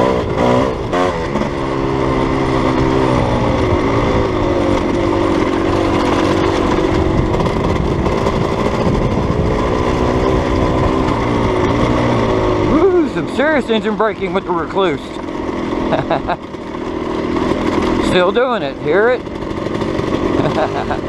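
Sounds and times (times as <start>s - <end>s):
dirt bike engine braking: 0.0s - 21.0s.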